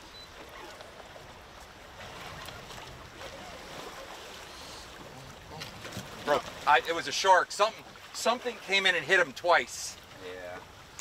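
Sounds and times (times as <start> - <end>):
water lapping against a hull: 0.0 - 11.0.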